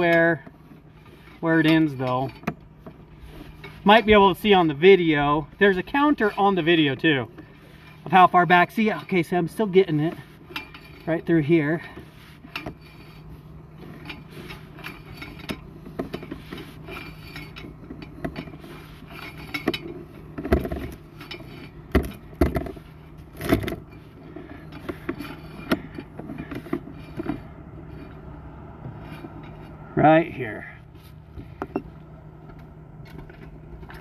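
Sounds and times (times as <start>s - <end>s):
cable scraping and clicking: 0.0s - 29.9s
steady low hum: 0.0s - 34.0s.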